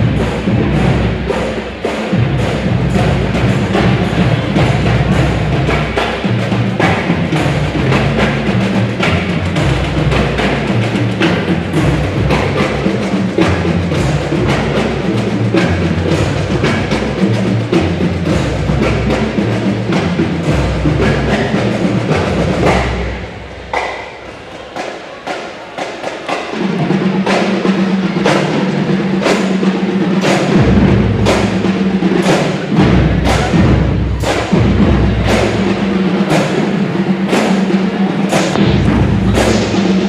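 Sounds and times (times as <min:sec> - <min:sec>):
drums clicking hits: 0:00.0 - 0:40.0
marching band playing: 0:00.0 - 0:40.0.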